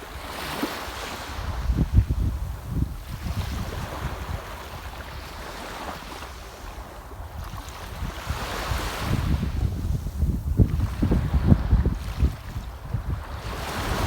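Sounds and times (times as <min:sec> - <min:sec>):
sea waves washing ashore: 0:00.0 - 0:14.0
wind on microphone: 0:00.0 - 0:14.0.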